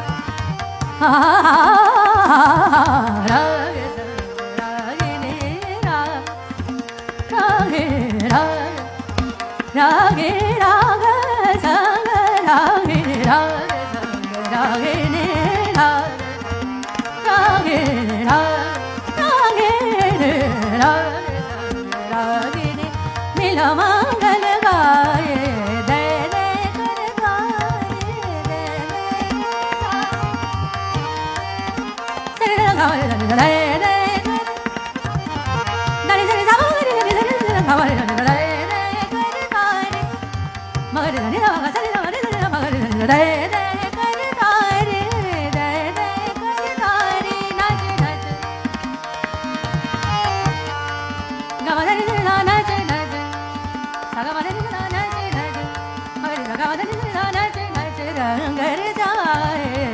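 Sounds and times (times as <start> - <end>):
woman singing classical vocal: 0.6 - 59.9.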